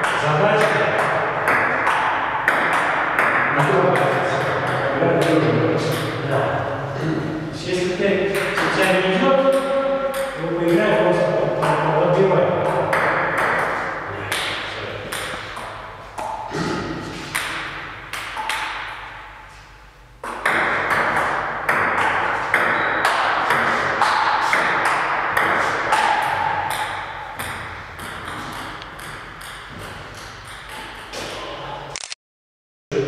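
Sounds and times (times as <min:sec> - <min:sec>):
table tennis ball hits: 0:00.0 - 0:06.2, 0:08.3 - 0:19.3, 0:20.2 - 0:31.4.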